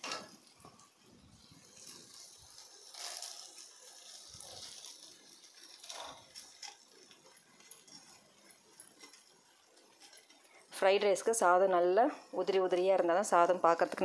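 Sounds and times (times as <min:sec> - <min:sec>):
faint pan sizzle: 0:00.0 - 0:14.0.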